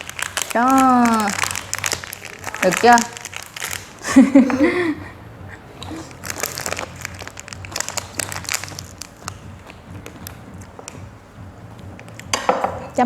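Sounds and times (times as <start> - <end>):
rice paper crinkling and crunching: 0.0 - 12.7.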